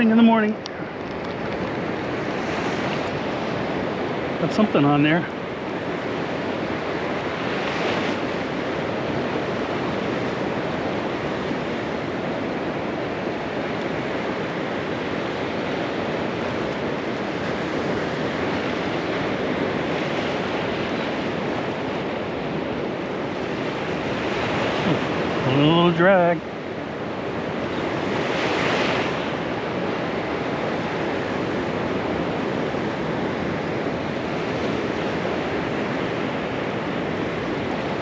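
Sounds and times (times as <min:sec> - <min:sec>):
surf breaking on beach: 0:00.0 - 0:38.0.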